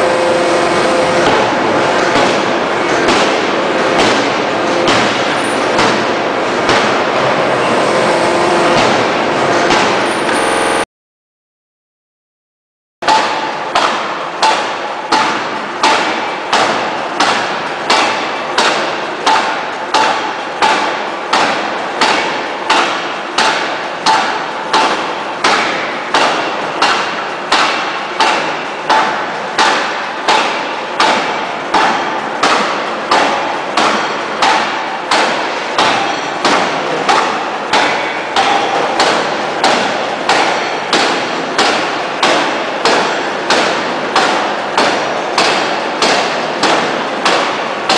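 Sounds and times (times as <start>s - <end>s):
forging hammer pounding steel: 0.0s - 10.8s, 13.0s - 47.9s.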